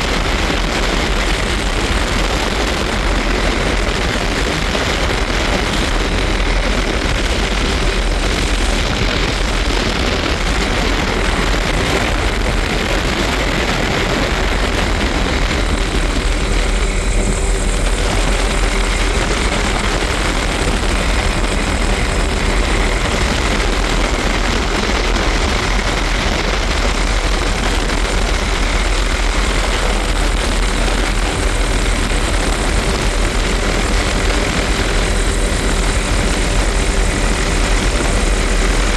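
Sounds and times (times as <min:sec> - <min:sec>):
helicopter rotor and engine: 0:00.0 - 0:38.9
wind rushing through cabin: 0:00.0 - 0:38.9.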